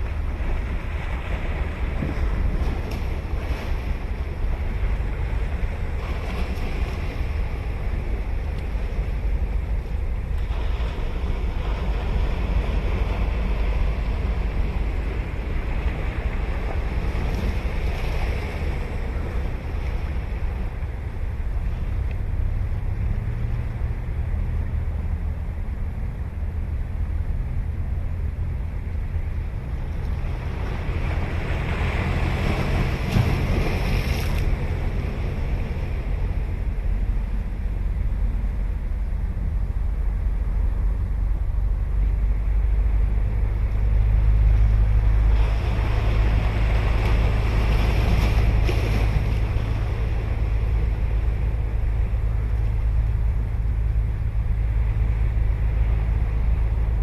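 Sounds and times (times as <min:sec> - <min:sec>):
waves breaking on beach: 0:00.0 - 0:57.0
wind rumble on microphone: 0:00.0 - 0:57.0.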